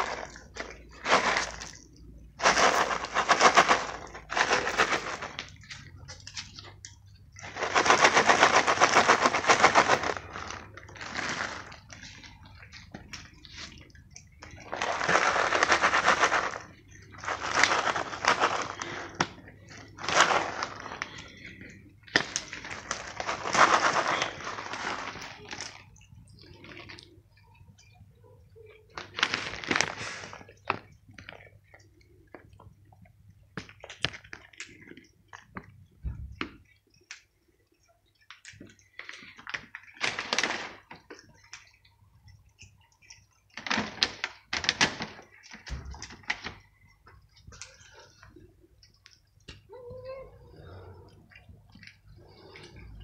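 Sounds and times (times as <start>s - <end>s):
cats crunching dry kibble: 0.0s - 28.0s, 28.6s - 49.7s, 51.0s - 53.0s.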